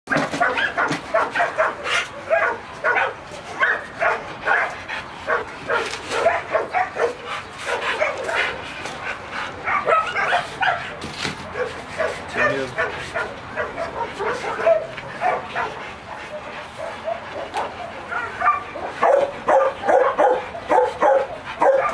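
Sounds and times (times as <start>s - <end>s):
dog barking and yipping: 0.1s - 8.6s, 9.6s - 21.9s.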